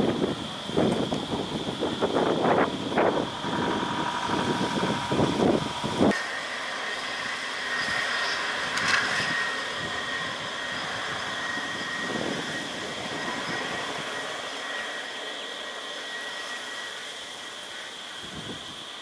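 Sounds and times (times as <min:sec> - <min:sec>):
bus engine running: 0:00.0 - 0:19.0
high-pitched whine and hiss: 0:00.0 - 0:19.0.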